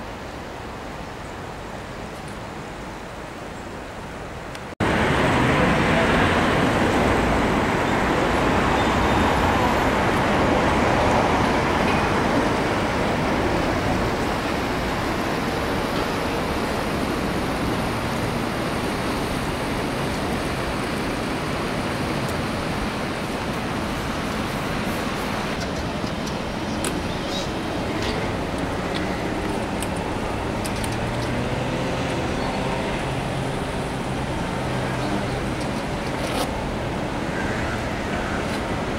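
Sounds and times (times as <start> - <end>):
river rushing roar: 0.0 - 38.9.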